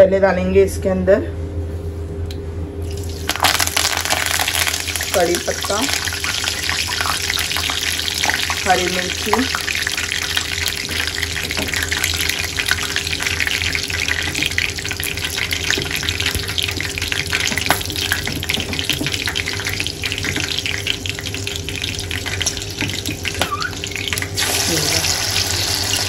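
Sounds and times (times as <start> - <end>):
leaves sizzling in hot oil: 2.9 - 26.0.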